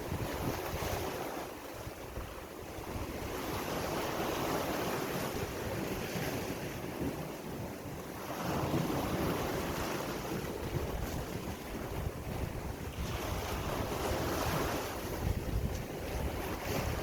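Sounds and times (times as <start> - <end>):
sea waves washing onto shore: 0.0 - 17.0
wind rumbling on microphone: 0.0 - 17.0.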